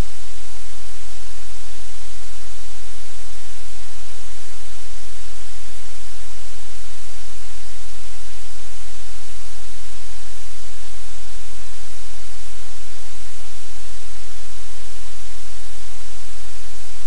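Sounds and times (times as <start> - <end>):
low electrical hum: 0.0 - 17.0
static hiss: 0.0 - 17.0.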